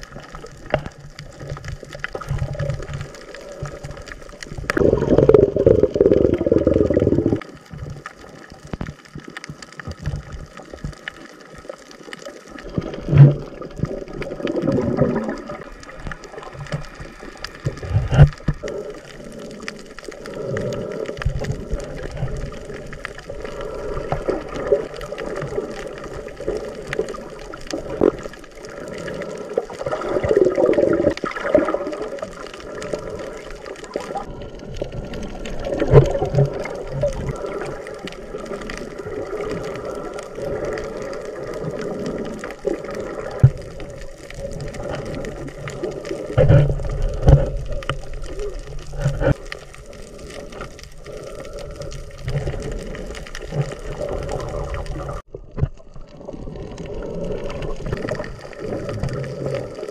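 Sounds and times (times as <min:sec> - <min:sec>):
muffled water sloshing and bubbling: 0:00.0 - 0:59.9.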